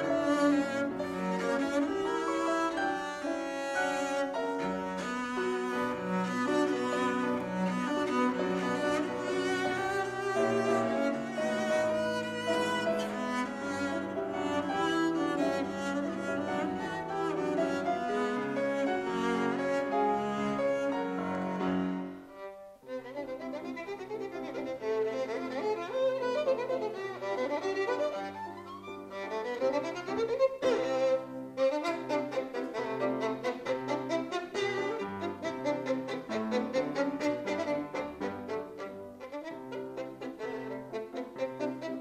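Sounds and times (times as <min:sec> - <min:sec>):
cello passage: 0:00.0 - 0:42.0
violin with piano: 0:00.0 - 0:42.0.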